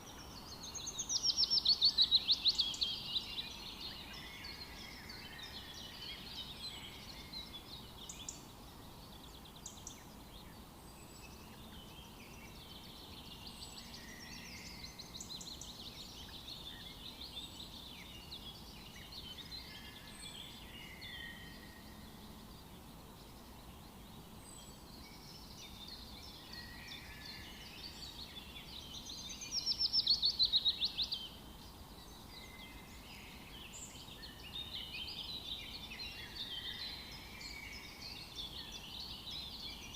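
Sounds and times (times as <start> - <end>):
birds singing in chorus: 0.0 - 39.9.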